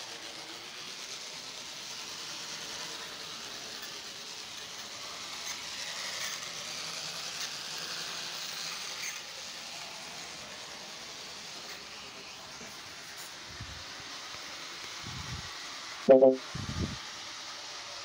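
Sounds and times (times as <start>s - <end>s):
model train motor whir: 0.0s - 18.0s.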